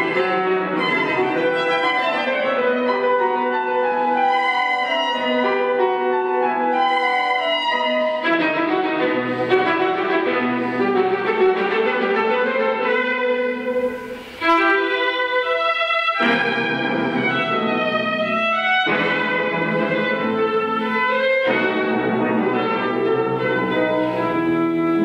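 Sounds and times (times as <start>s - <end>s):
violin slow melody: 0.0s - 25.0s.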